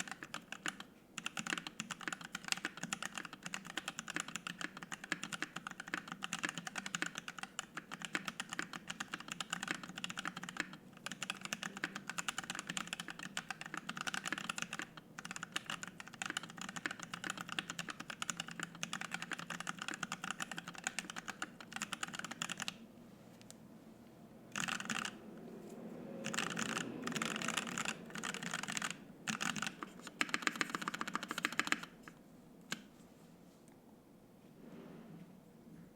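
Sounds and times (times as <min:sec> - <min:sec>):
typing on mechanical keyboard: 0:00.0 - 0:22.8, 0:24.5 - 0:25.2, 0:26.2 - 0:32.9.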